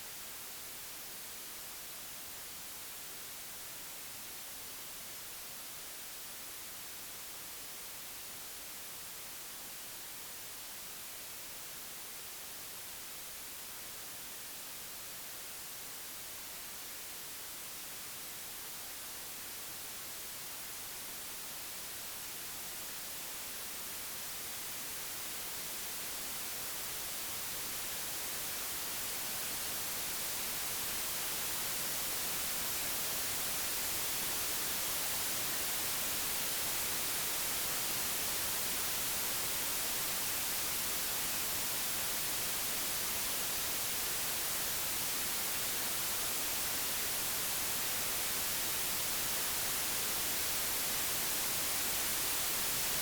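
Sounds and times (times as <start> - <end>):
white noise hiss: 0.0 - 53.0.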